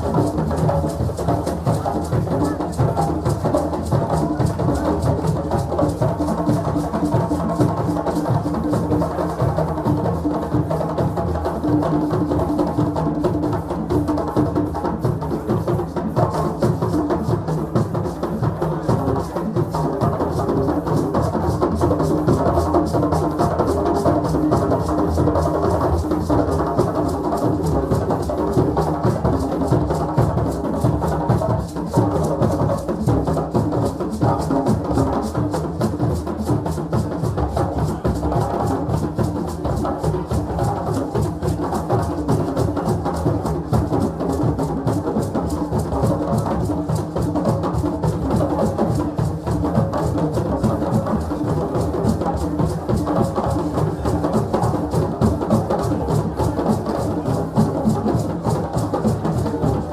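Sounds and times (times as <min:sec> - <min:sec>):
hand drums in fast rhythm: 0:00.0 - 0:59.9.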